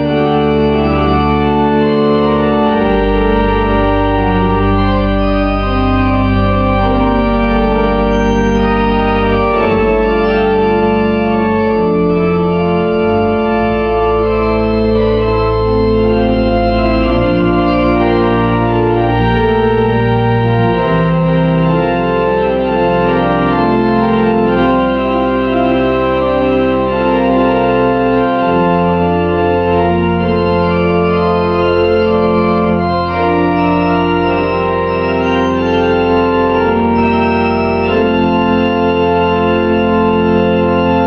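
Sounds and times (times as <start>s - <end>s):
organ playing sustained chords: 0.0s - 41.0s.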